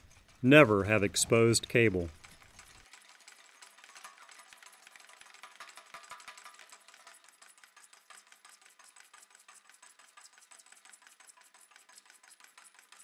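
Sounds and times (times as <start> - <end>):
drain cleaning machine clattering: 0.0 - 13.0.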